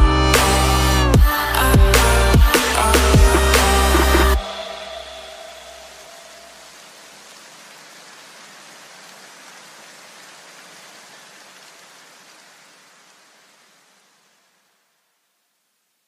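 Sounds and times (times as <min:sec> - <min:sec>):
white noise hiss: 0:00.4 - 0:16.0.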